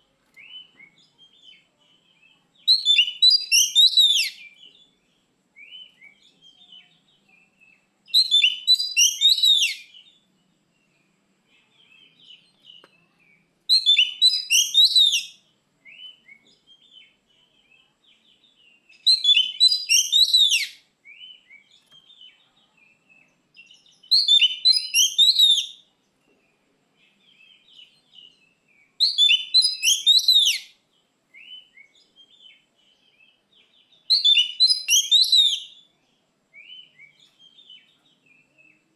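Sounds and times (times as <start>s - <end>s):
soft scratchy bird chatter: 0.0s - 38.9s.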